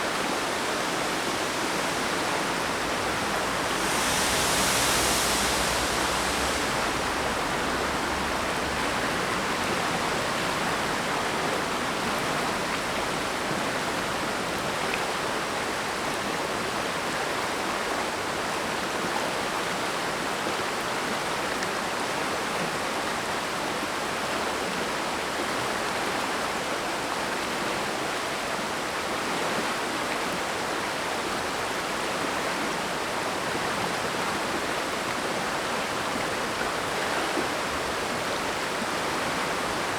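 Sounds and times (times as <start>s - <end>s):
mountain stream rushing: 0.0s - 28.0s, 28.7s - 39.9s.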